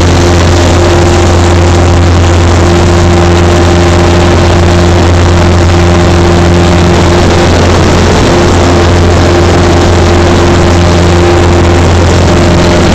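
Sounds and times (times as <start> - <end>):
propeller plane engine droning: 0.0 - 12.9.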